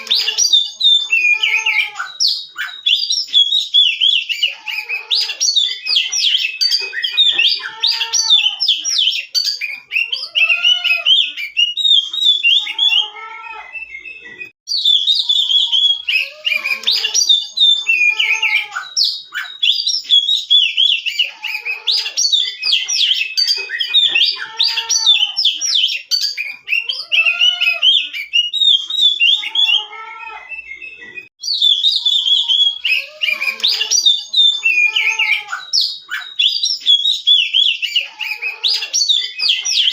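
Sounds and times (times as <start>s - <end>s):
songbird chirping and twittering: 0.0s - 39.9s.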